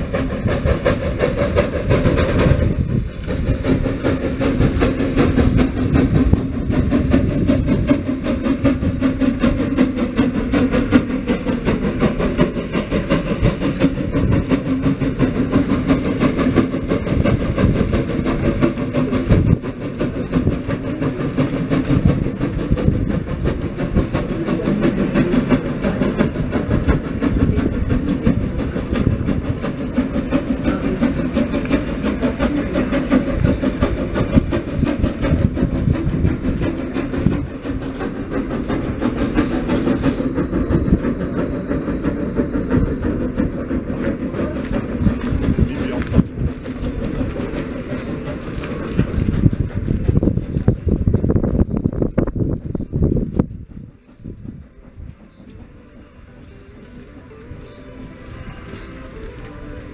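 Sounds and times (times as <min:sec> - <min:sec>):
steam locomotive running: 0:00.0 - 0:59.9
train wheels rolling on rails: 0:00.0 - 0:59.9.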